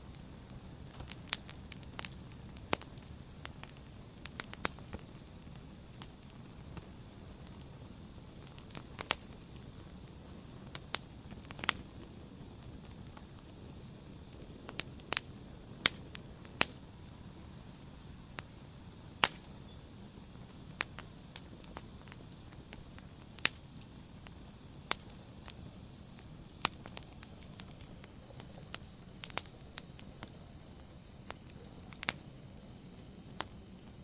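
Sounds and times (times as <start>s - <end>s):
fire soft steady hiss: 0.0s - 34.0s
wood fire crackling: 0.0s - 34.0s.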